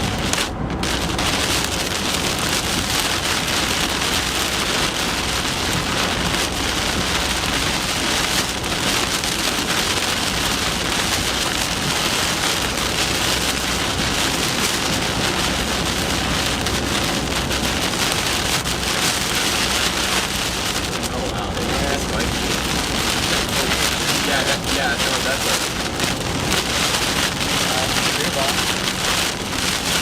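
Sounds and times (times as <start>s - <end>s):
heavy rain on vehicle: 0.0s - 30.0s.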